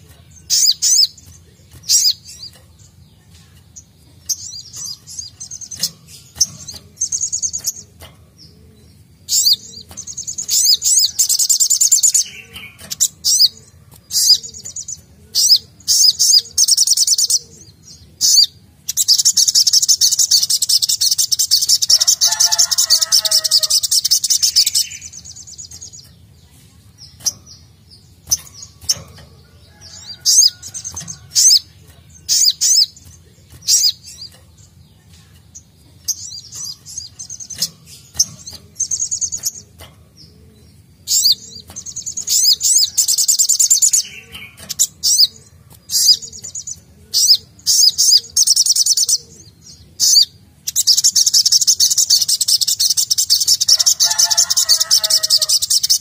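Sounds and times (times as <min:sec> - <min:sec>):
sunbird singing: 0:00.0 - 0:56.0.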